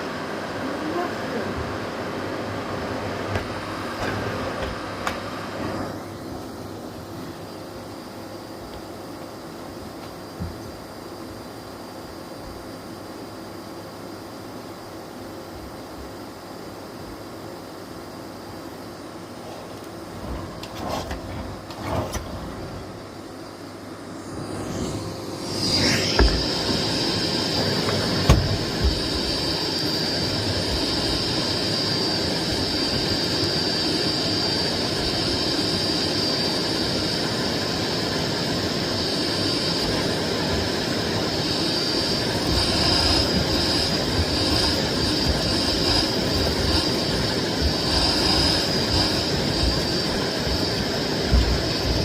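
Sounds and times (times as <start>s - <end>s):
vacuum cleaner motor whine: 0.0s - 52.0s.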